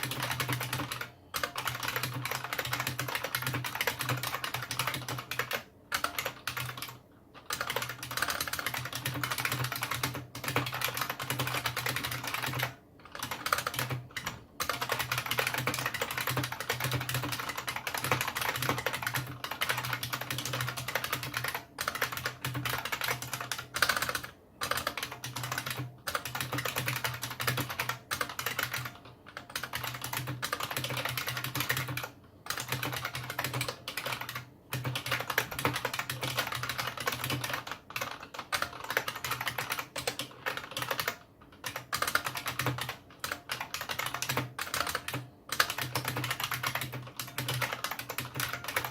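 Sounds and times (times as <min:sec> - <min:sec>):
fast typing on keyboard: 0:00.0 - 0:48.9.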